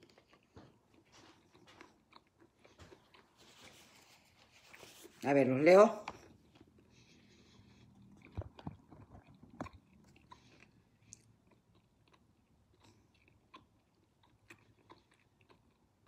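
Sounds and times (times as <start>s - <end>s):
person chewing: 0.0s - 5.2s, 6.1s - 16.0s.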